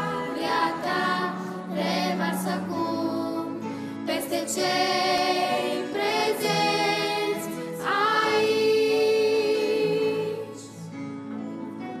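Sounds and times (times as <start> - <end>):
woman and girls singing a hymn: 0.0 - 10.9.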